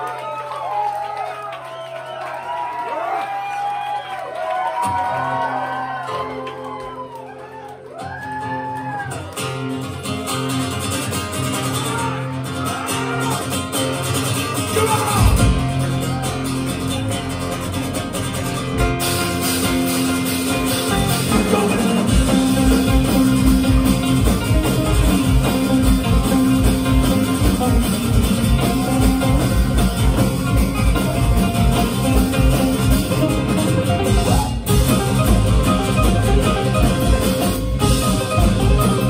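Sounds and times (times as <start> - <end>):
live band playing metal bluegrass: 4.8 - 39.0.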